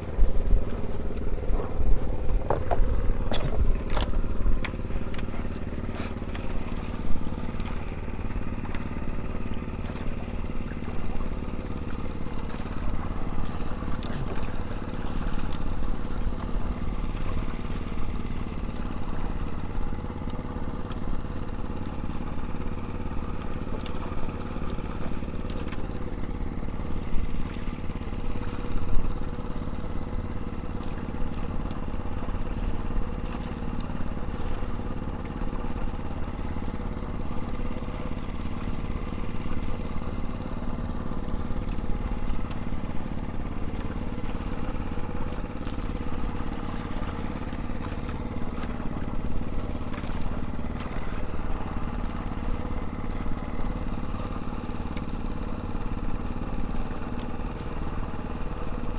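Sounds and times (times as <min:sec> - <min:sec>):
small generator engine running: 0:00.0 - 0:58.9.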